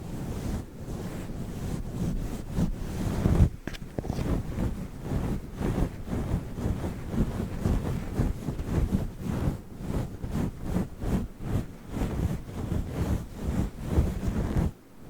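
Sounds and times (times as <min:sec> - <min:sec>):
furry microphone cover rubbing: 0:00.0 - 0:14.8.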